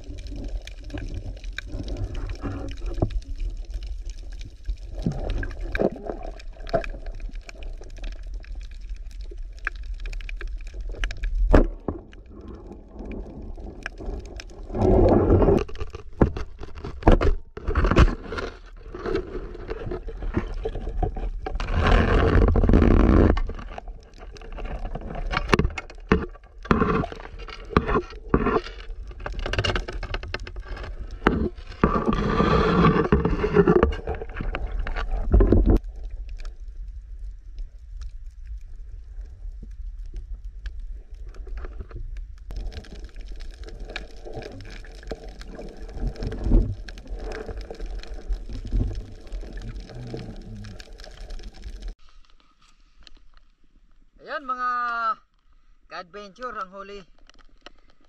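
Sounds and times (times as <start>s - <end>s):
water rushing and gurgling underwater: 0.0s - 54.2s.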